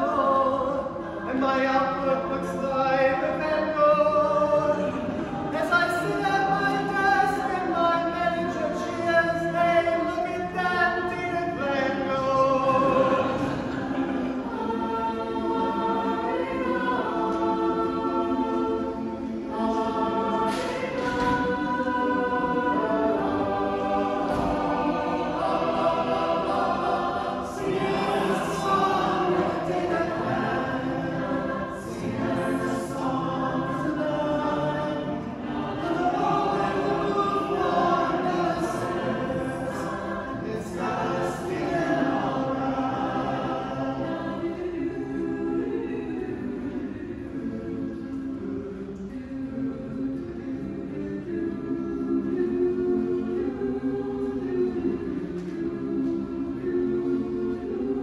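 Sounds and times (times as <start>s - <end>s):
mixed choir singing a cappella: 0.0s - 58.0s.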